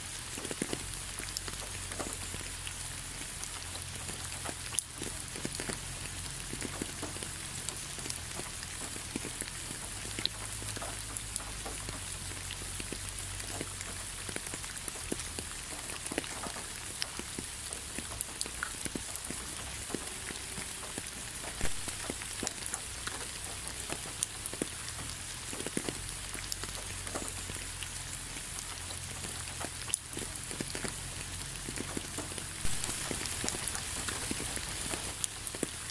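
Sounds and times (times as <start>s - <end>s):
raindrops ticking: 0.0s - 35.9s
steady rainfall: 0.0s - 35.9s.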